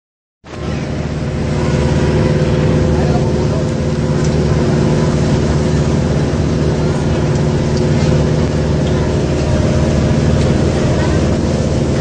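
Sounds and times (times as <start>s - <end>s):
ferry engine droning: 0.4s - 12.0s.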